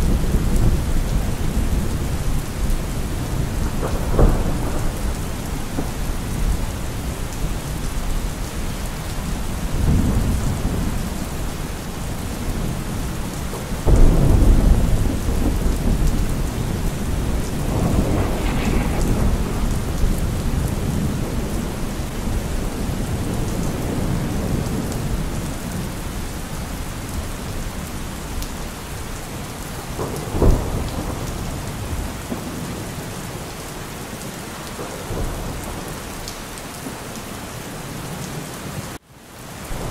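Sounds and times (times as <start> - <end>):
rolling thunder: 0.0 - 33.5, 34.6 - 36.6
steady rain: 0.0 - 39.9.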